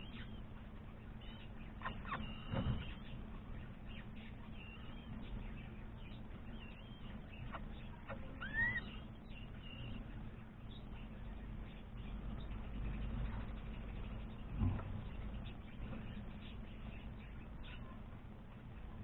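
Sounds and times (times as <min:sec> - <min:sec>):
birds chirping: 0:00.0 - 0:19.0
steady low hum: 0:00.0 - 0:19.0.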